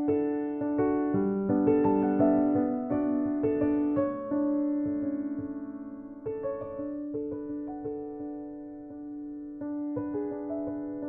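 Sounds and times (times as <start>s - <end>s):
slow piano notes: 0.0s - 11.0s.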